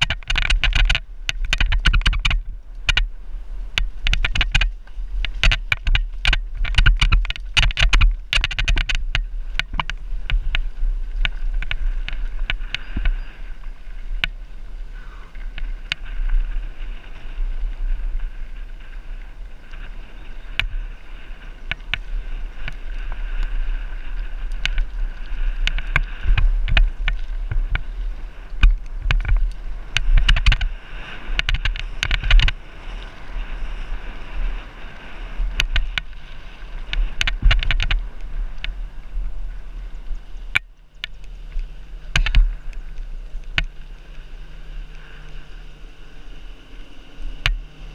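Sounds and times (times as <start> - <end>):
bike rattling and clicking: 0.0 - 46.1, 46.8 - 47.9
bike tyres on dirt and gravel: 0.0 - 47.9
wind rumbling on microphone: 0.0 - 47.9.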